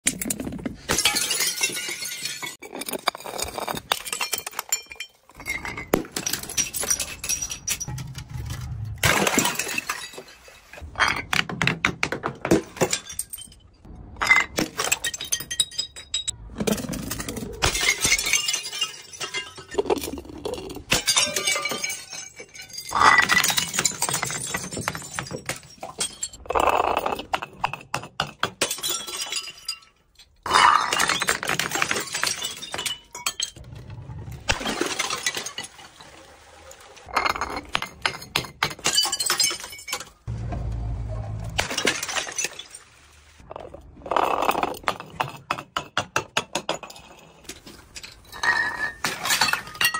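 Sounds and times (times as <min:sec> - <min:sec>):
glass bottles smashing on stairs: 0:00.1 - 0:33.7, 0:34.5 - 0:36.1, 0:37.1 - 0:40.3, 0:41.6 - 0:42.8, 0:44.3 - 0:49.9.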